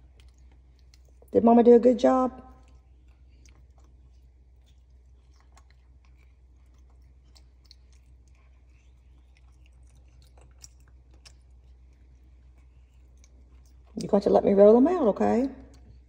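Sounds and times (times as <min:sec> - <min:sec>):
monkey chewing wet smacks: 0:00.0 - 0:01.4, 0:02.4 - 0:14.2
low steady hum: 0:00.0 - 0:16.0.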